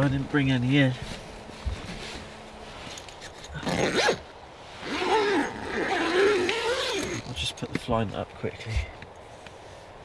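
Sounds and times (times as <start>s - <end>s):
rustling of bedding and tent fabric: 0.0s - 8.0s.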